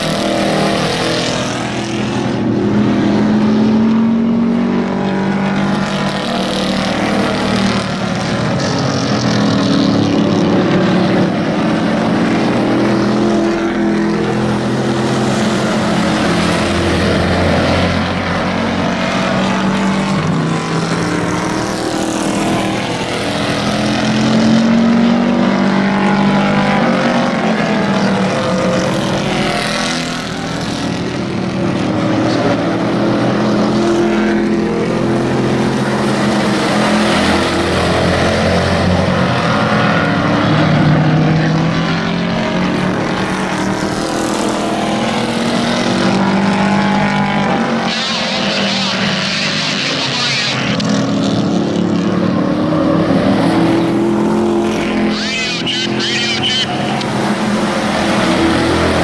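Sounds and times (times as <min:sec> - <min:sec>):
race truck engines revving: 0:00.0 - 0:59.0.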